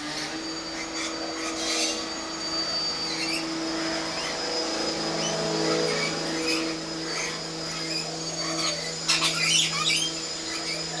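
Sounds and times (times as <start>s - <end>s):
motor humming: 0.0s - 11.0s
bird chirps: 0.6s - 11.0s.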